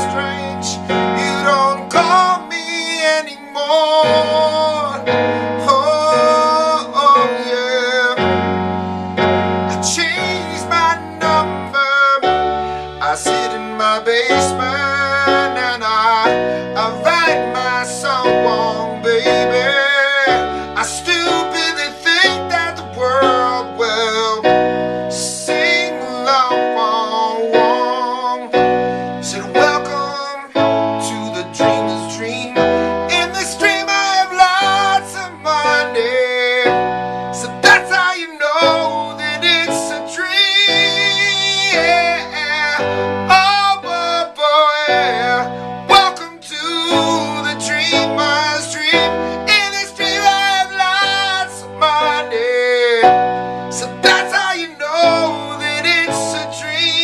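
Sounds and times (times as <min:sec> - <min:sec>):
keyboard accompaniment: 0:00.0 - 0:57.0
person singing with vibrato: 0:00.0 - 0:57.0
sustained bass notes: 0:00.0 - 0:57.0.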